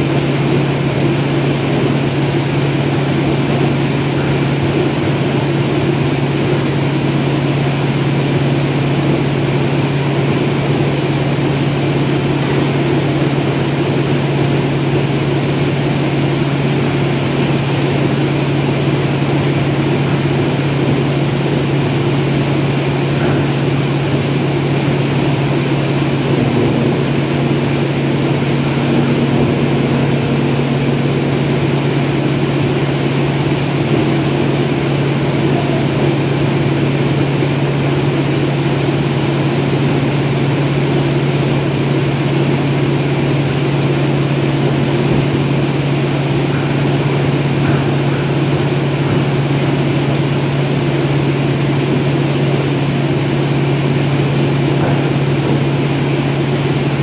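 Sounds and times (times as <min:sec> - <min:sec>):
machine engine drone: 0:00.0 - 0:57.0.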